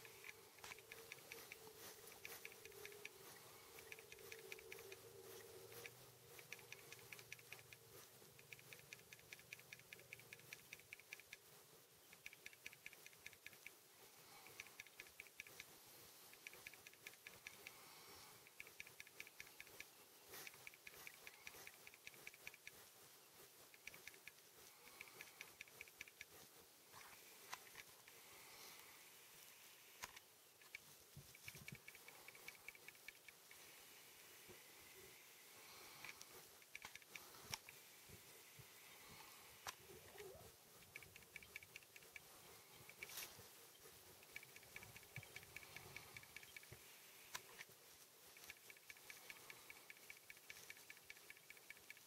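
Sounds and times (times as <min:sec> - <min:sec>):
faint rapid ticking: 0:00.0 - 0:52.0
faint steady hum: 0:00.0 - 0:52.0.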